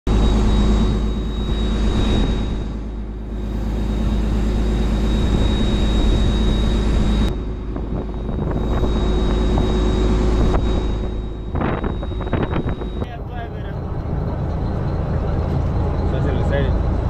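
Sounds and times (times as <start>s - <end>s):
boat engine low drone: 0.1s - 17.0s
thin high whine: 0.1s - 17.0s.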